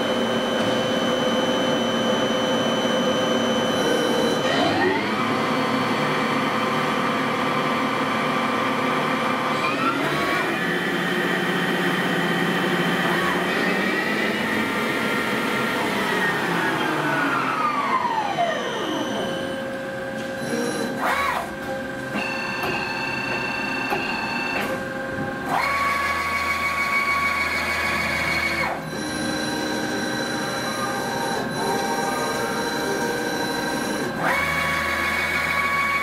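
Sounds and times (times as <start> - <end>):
lathe drives whining: 0.0 - 36.0.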